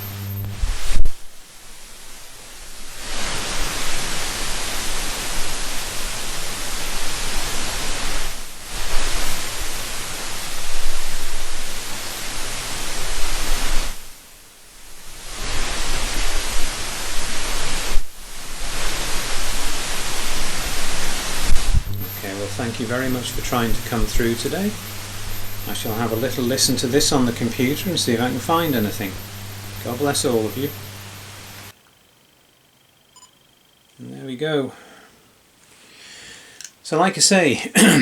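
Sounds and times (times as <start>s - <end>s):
loud static hiss: 0.0s - 33.1s, 33.8s - 38.0s.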